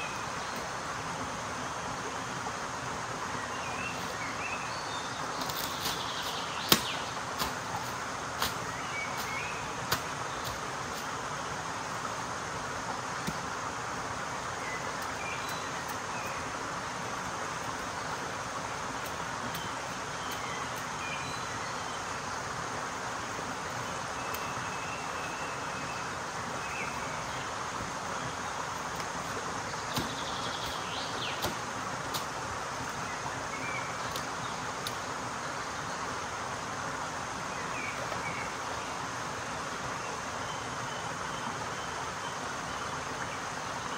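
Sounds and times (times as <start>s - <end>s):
mountain stream rushing: 0.0s - 43.9s.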